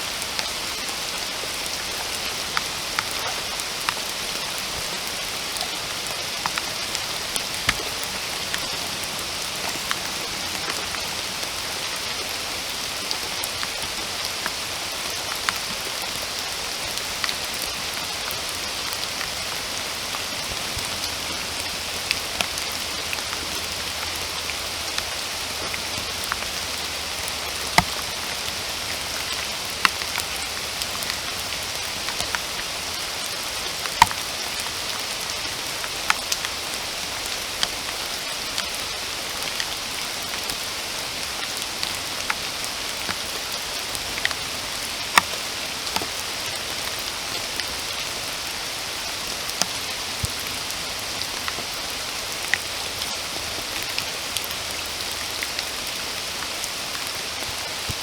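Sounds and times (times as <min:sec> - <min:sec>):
steady rain in a forest: 0:00.0 - 0:58.0
water drips: 0:00.2 - 0:57.1.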